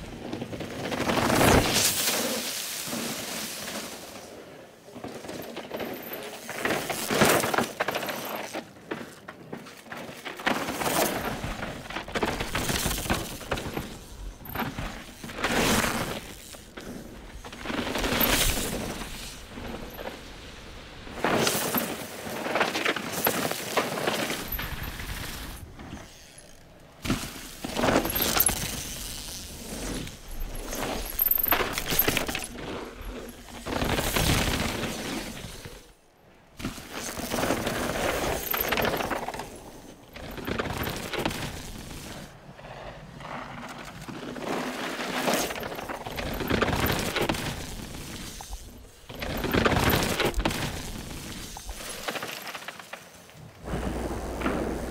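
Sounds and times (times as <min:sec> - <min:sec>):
bike tyres skidding through dirt: 0:00.0 - 0:36.0, 0:36.6 - 0:54.9
bikes rattling: 0:00.0 - 0:54.9.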